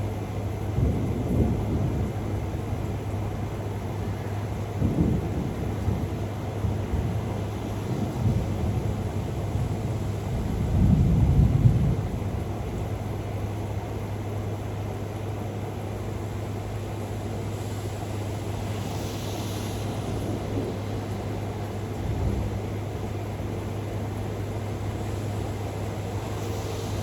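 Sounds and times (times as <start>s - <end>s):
constant low hum: 0.0s - 27.0s
storm noise hiss: 0.0s - 27.0s
thunder rumbling: 0.4s - 27.0s.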